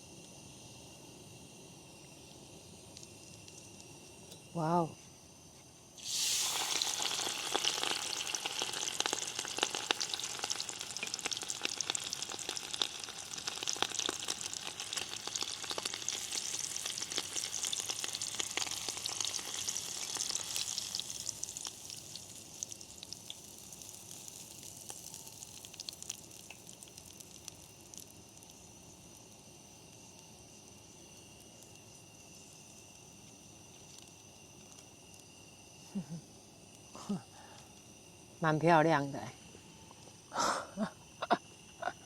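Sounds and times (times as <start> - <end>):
shrimp deep-frying in oil: 0.0 - 39.9.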